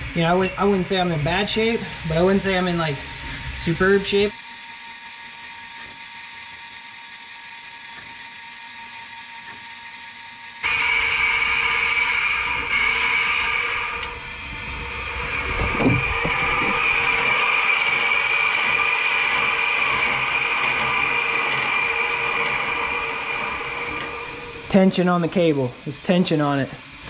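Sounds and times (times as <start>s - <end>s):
drain machine motor whine: 0.0s - 27.0s.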